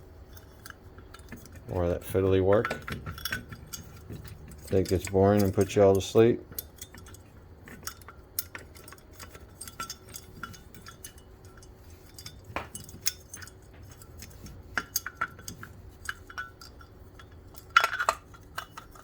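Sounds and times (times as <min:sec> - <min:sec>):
small hard parts clicking and clinking: 0:00.2 - 0:19.0.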